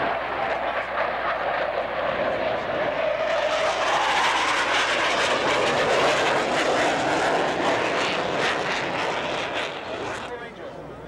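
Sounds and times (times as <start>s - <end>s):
jets flying over: 0.0s - 11.0s.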